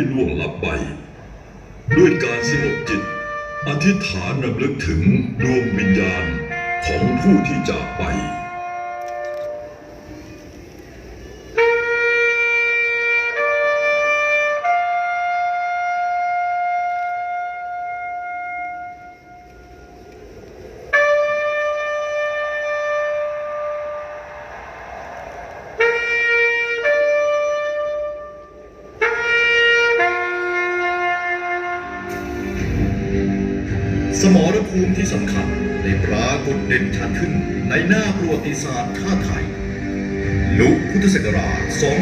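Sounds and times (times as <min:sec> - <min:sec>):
solo wind instrument playing: 0:01.8 - 0:24.4, 0:25.8 - 0:38.4.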